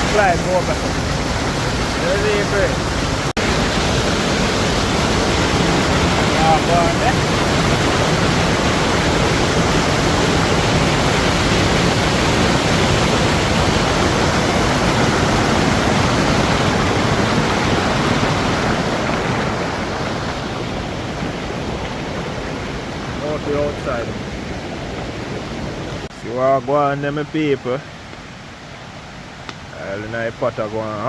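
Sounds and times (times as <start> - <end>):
river water rushing: 0.0 - 26.1.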